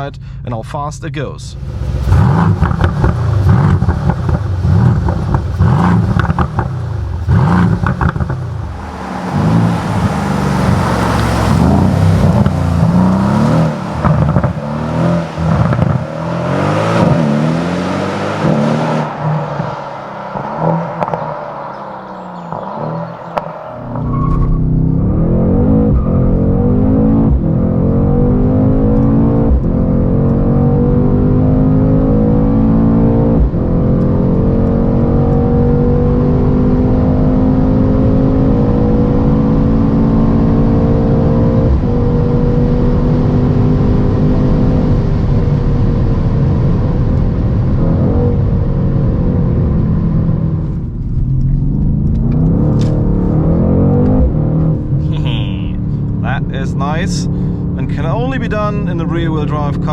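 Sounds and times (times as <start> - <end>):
car engine at full throttle: 1.5 - 59.9.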